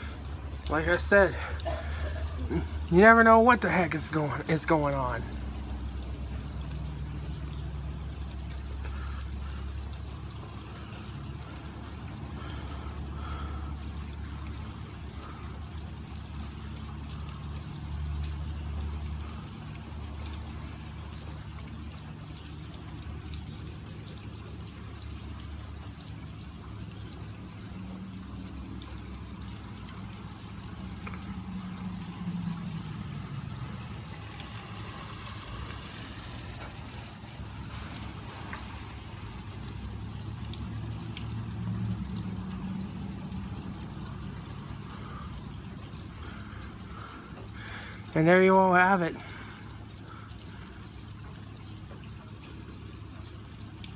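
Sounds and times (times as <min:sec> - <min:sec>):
heavy rain falling: 0:00.0 - 0:53.9
running water: 0:00.0 - 0:53.9.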